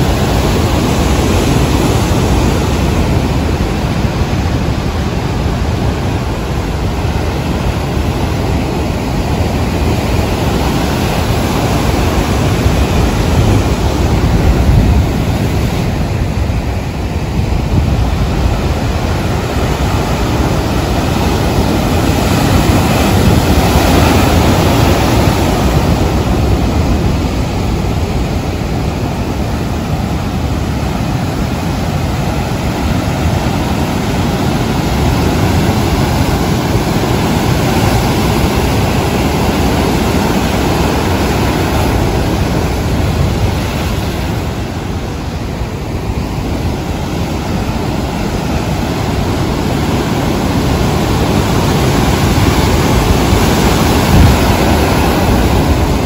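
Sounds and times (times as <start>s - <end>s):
waves breaking over rocks: 0.0s - 56.0s.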